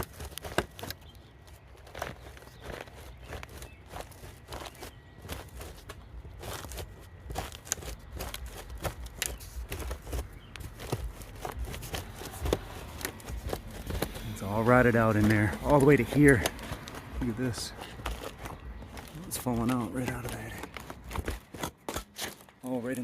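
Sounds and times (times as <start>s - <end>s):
taps and crackling clicks on cladding: 0.0s - 4.7s, 7.3s - 22.6s.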